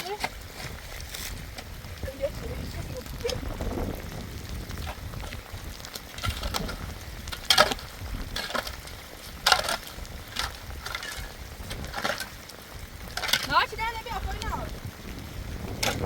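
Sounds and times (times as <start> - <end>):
rustling or crackling noises: 0.0 - 16.0
steady low rumble: 0.5 - 16.0.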